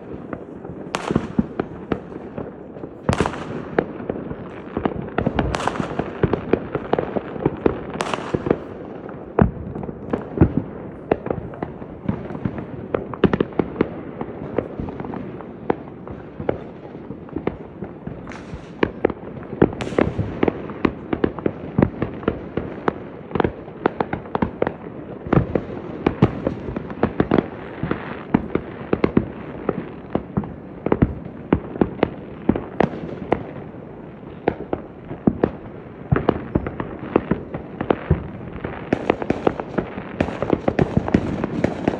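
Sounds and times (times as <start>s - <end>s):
high fireworks hisses: 0.0s - 24.2s, 25.4s - 41.9s
fireworks bangs and pops: 0.0s - 41.9s.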